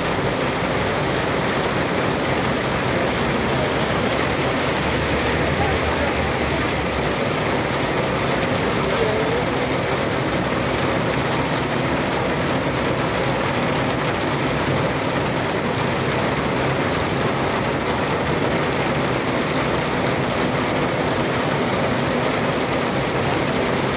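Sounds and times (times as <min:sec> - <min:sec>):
heavy rain on pavement: 0:00.0 - 0:23.9.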